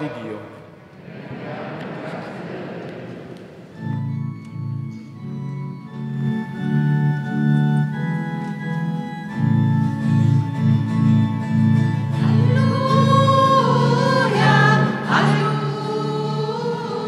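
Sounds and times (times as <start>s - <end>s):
organ playing held chords: 2.3s - 17.0s.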